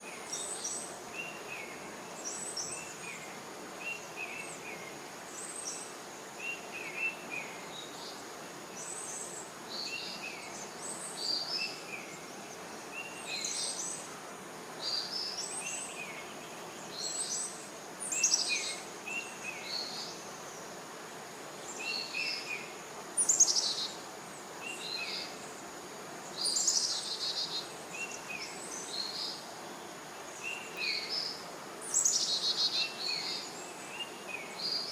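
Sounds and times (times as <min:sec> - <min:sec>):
background hiss: 0:00.0 - 0:34.9.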